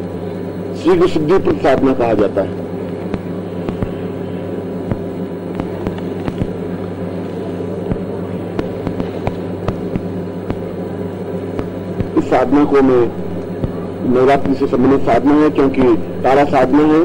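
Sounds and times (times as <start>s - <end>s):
electrical hum with hiss: 0.0s - 17.0s.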